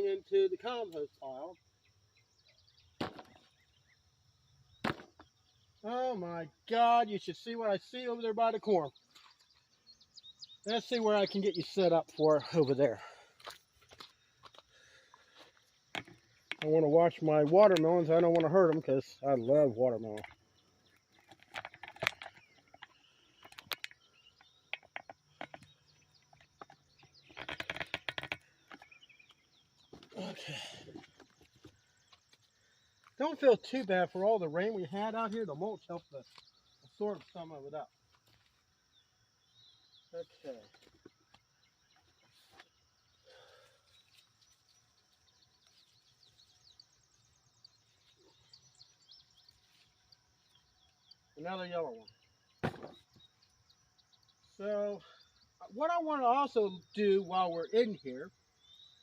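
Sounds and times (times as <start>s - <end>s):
faint bird chirps: 0.0s - 59.0s.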